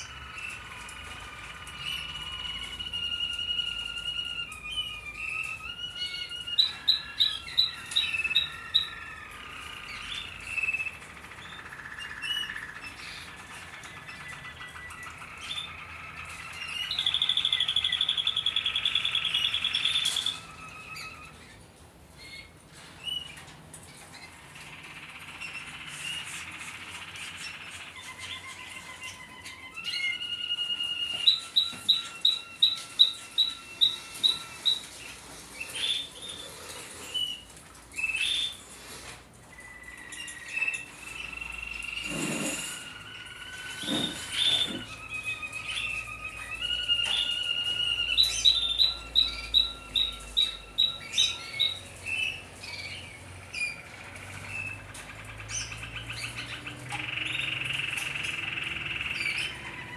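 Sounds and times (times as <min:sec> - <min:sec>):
canaries singing: 0:00.0 - 0:59.9.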